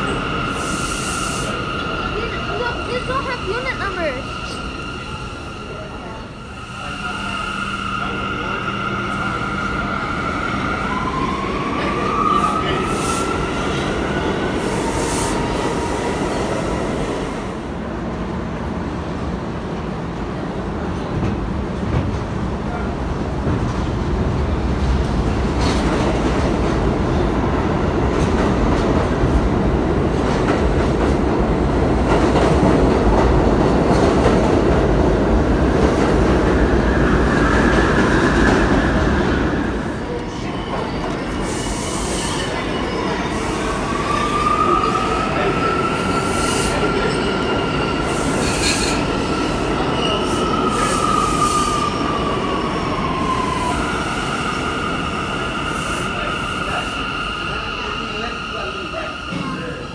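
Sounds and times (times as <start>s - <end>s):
subway train rumbling past: 0.0s - 59.9s.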